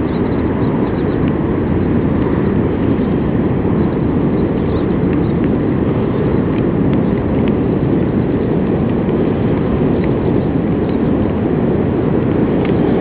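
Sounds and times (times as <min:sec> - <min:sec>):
heavy surf breaking on beach: 0:00.0 - 0:13.0.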